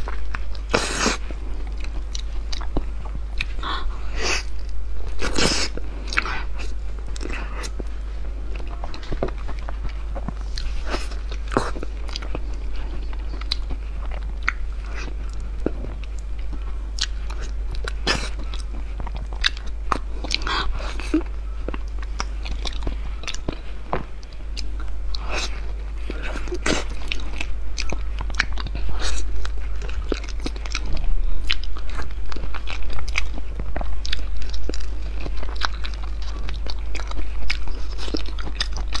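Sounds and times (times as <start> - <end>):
low hum: 0.0 - 39.0
person chewing: 0.0 - 39.0.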